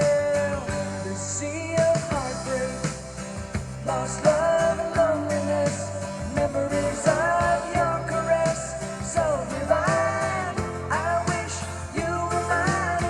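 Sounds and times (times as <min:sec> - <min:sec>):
country-rock music through speaker: 0:00.0 - 0:13.0.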